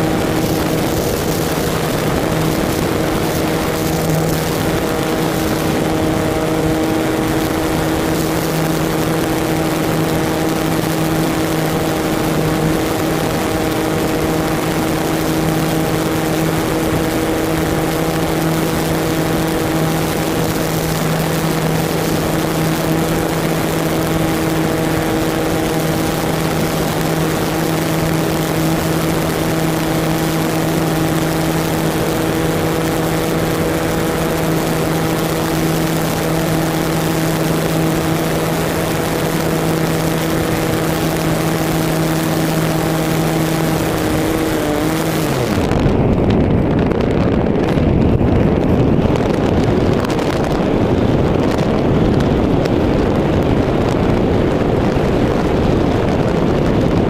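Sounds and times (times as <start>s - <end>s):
model glider motor and propeller: 0.0s - 57.0s.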